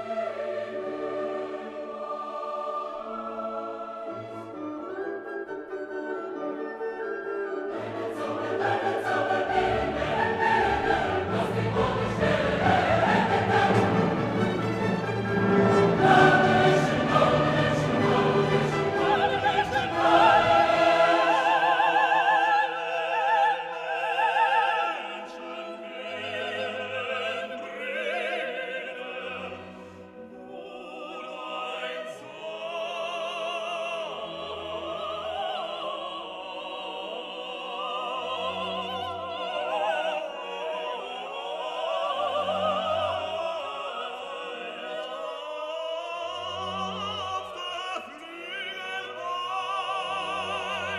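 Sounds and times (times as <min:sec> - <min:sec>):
orchestral music: 0:00.0 - 0:50.9
operatic voice singing: 0:07.8 - 0:50.9.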